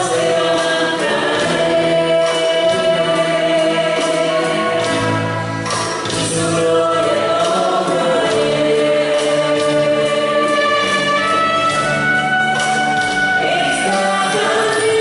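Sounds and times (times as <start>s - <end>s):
accompanying music: 0.0s - 15.0s
group singing a gospel hymn: 0.0s - 15.0s.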